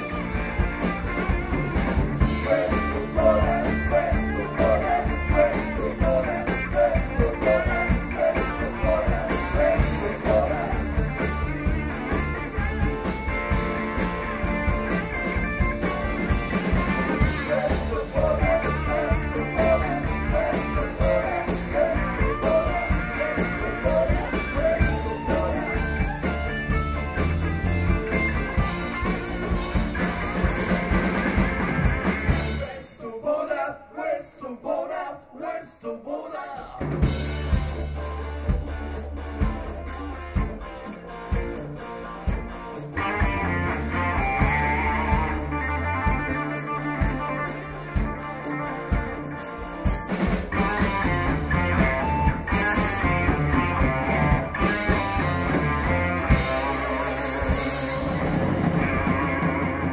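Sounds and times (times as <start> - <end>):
blues rock band playing: 0.0 - 32.8, 36.8 - 59.9
lead electric guitars: 0.0 - 32.8, 36.8 - 59.9
drum kit: 0.0 - 32.9, 36.6 - 59.9.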